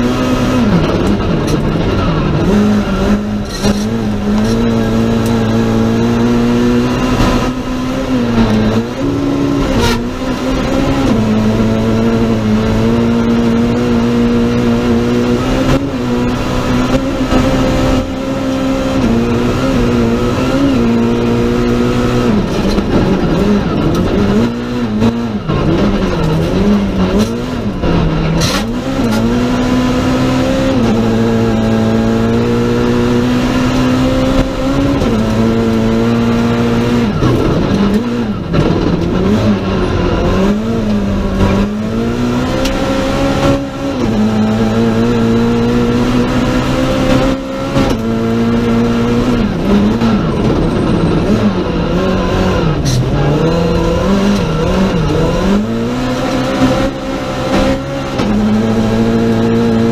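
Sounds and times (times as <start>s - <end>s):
rally car engine at high revs: 0.0s - 59.9s
tyre and road noise: 0.0s - 59.9s.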